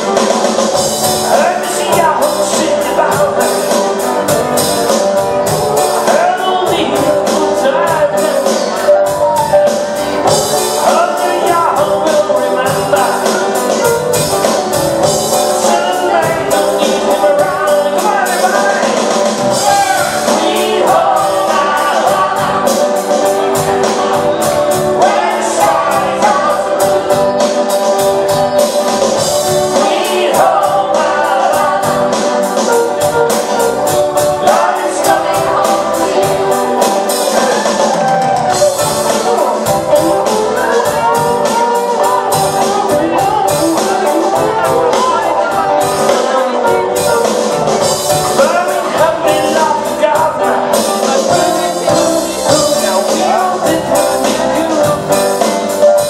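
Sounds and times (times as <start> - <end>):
lead singer: 0.0 - 56.0
live rock band playing: 0.0 - 56.0
steady drum beat: 0.0 - 56.0.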